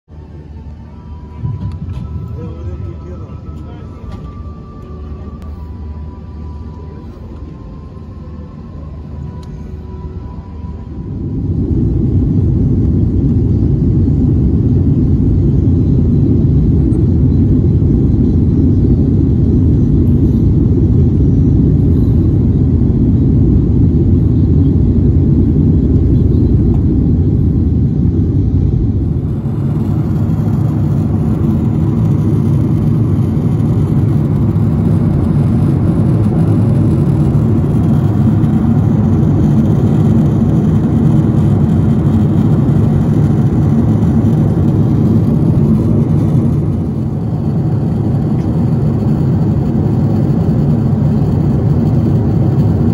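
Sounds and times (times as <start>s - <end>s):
airliner cabin engine drone: 0.1s - 52.9s.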